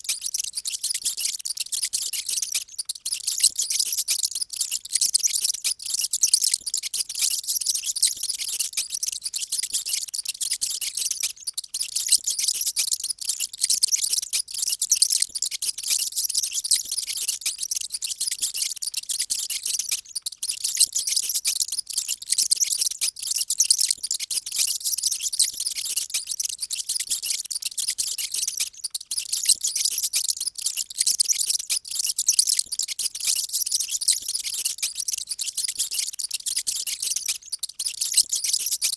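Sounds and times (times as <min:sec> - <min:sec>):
mice squeaking: 0:00.0 - 0:38.9.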